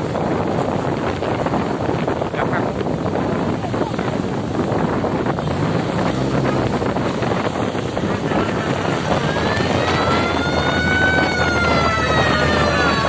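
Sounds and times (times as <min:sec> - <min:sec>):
road noise: 0:00.0 - 0:13.0
vehicle engine: 0:00.0 - 0:13.0
wind buffeting microphone: 0:00.0 - 0:13.0.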